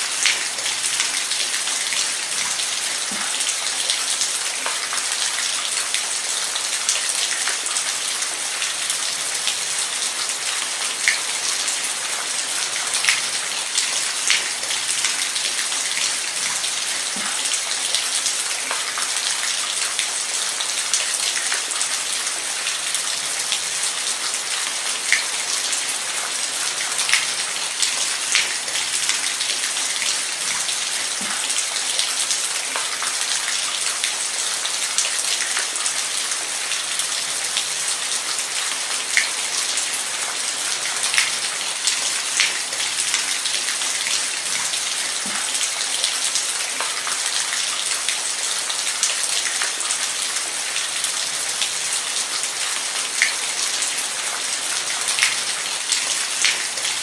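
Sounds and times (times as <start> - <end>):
rain hissing on a surface: 0.0 - 57.0.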